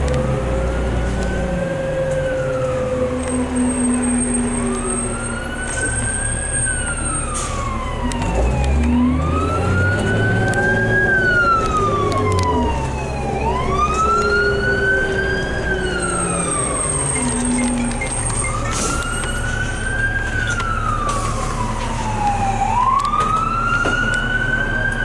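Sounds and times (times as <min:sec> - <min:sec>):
bus engine hum: 0:00.0 - 0:25.0
emergency vehicle wail siren: 0:00.0 - 0:25.0.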